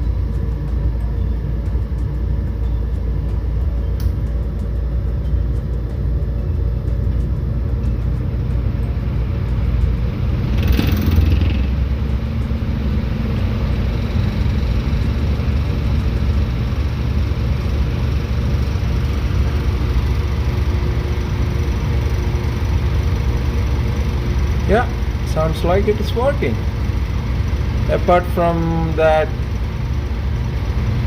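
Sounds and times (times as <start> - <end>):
heater fan and burner hum: 0.0 - 31.0.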